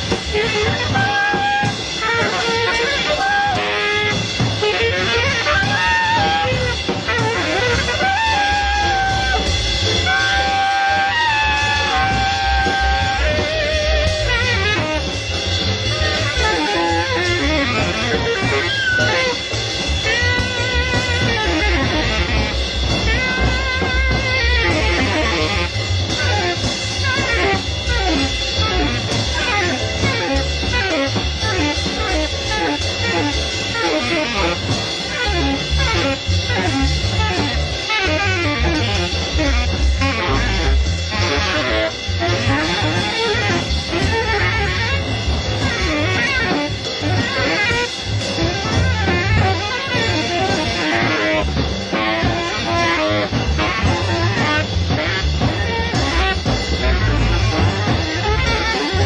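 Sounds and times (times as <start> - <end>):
jazz quartet playing: 0.0 - 59.0.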